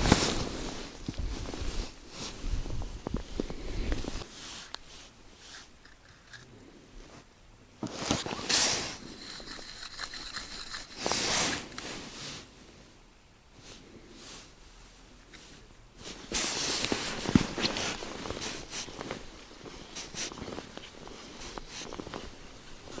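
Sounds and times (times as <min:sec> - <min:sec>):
scraping and rustling: 0:00.0 - 0:12.5, 0:15.3 - 0:23.0.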